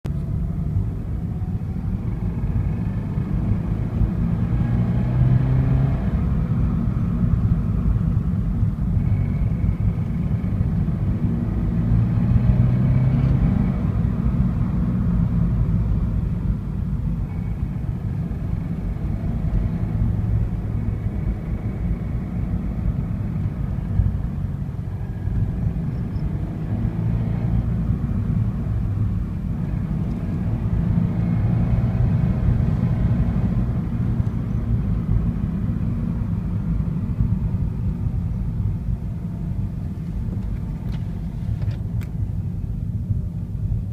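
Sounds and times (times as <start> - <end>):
engine rumbling: 0.0 - 43.9.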